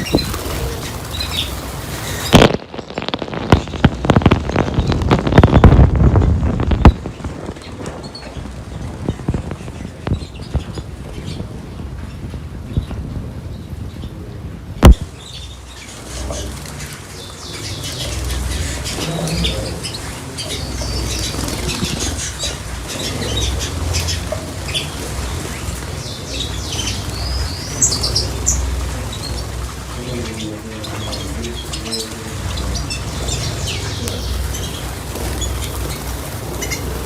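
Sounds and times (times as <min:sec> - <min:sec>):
wing flutters: 0:00.0 - 0:13.1, 0:14.8 - 0:37.0
small birds chirping: 0:00.0 - 0:37.0.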